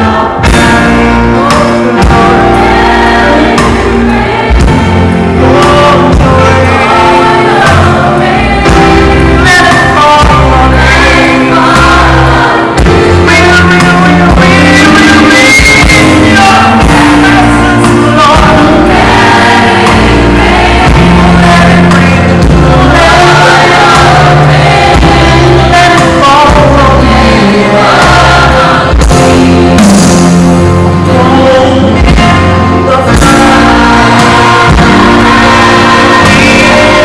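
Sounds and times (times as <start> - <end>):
choir singing gospel: 0.0 - 37.0
deep bass line: 0.0 - 37.0.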